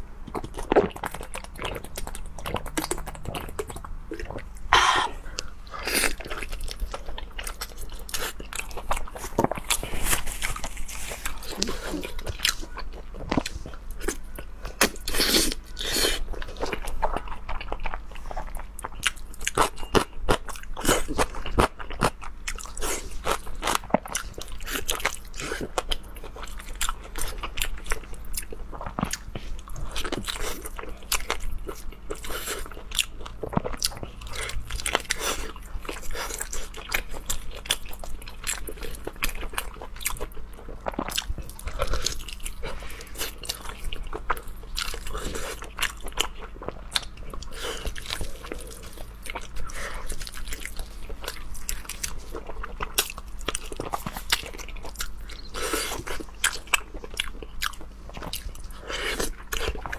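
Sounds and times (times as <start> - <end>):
crunchy bites and chewing: 0.2 - 59.9.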